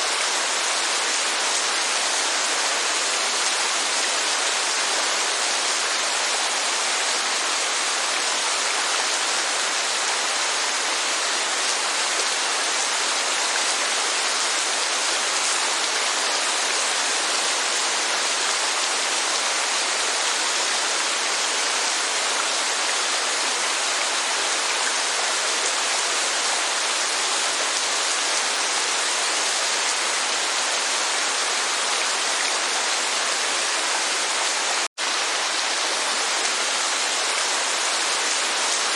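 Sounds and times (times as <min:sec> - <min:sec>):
rain and falling water: 0:00.0 - 0:38.9.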